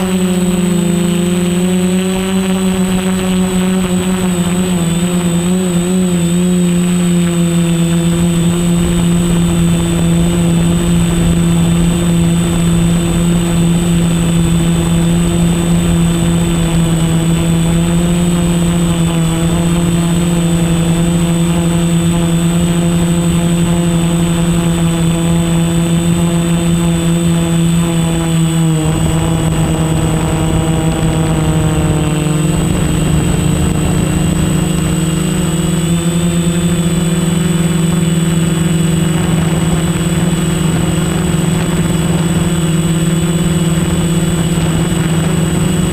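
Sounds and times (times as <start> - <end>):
drone propellers whining: 0.0 - 45.9.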